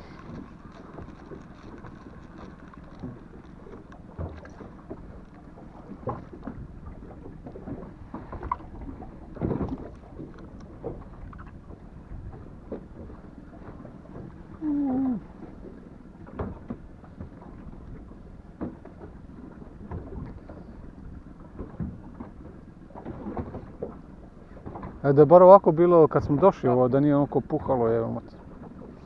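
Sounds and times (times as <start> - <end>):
wind rumble on microphone: 0.0 - 25.1
water around boat: 0.0 - 29.0.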